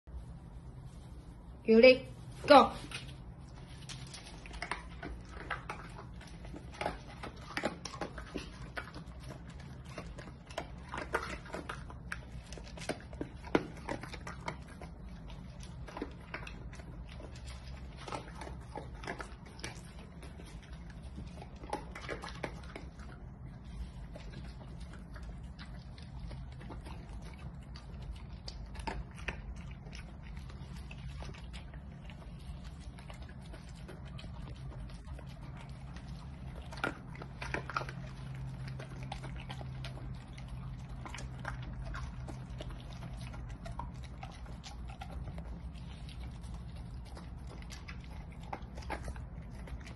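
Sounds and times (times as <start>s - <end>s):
dog crunching kibble: 0.1s - 49.9s.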